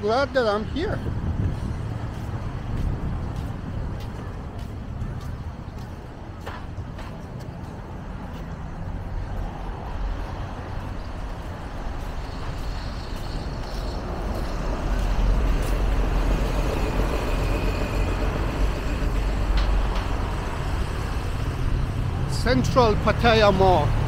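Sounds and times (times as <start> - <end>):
passing road traffic rumble: 0.0 - 24.0.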